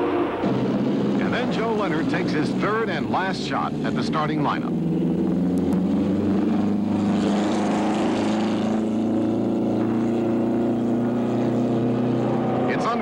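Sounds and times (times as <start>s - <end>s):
race car engine droning: 0.0s - 13.0s.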